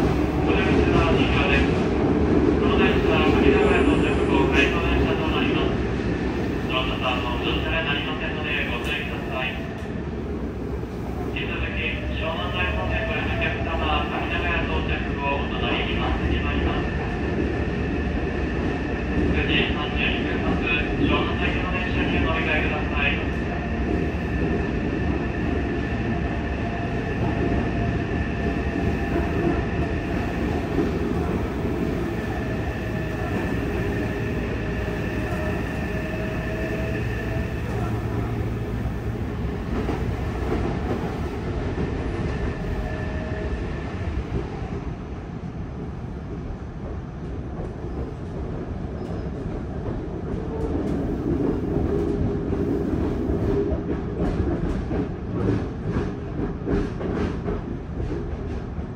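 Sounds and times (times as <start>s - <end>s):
subway wheels rumbling on rails: 0.0s - 58.9s.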